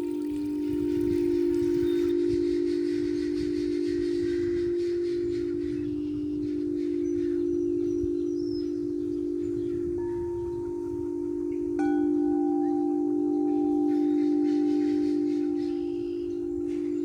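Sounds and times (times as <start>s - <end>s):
wind chime ringing: 0.0s - 17.0s.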